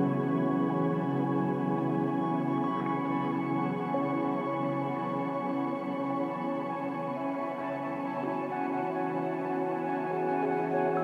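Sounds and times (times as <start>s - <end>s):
ambient music held chords: 0.0s - 11.0s.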